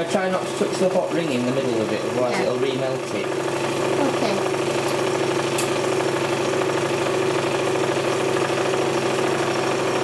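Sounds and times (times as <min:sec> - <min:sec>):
candyfloss machine motor hum: 0:00.0 - 0:10.0.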